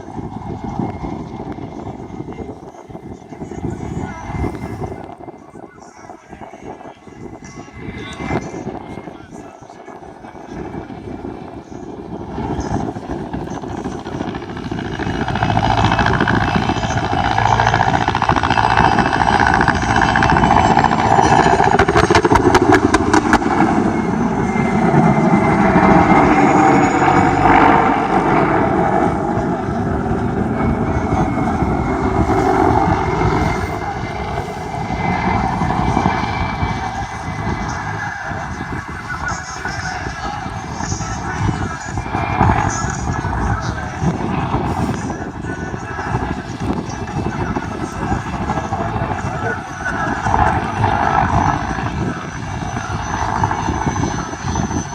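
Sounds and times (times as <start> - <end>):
helicopter flying by: 0.0 - 54.9
high turbine whine: 0.0 - 54.9.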